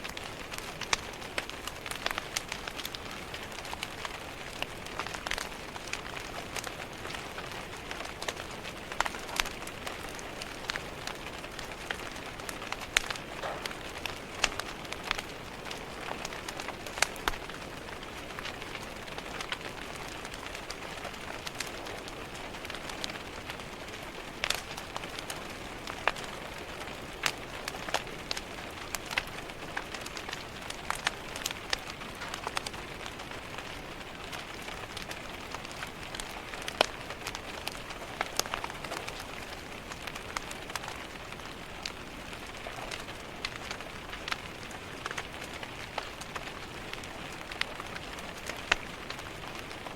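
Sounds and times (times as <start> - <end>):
rain pattering on a window: 0.0 - 49.9
wood fire crackling: 0.0 - 49.9.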